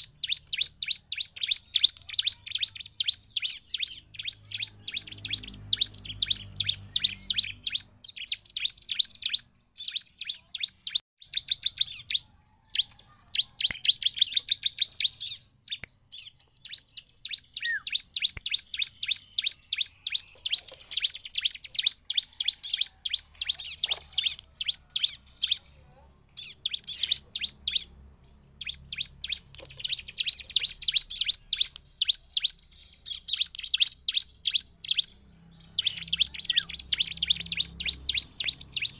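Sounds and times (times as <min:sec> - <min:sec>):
bird singing high chirps: 0:00.0 - 0:38.9.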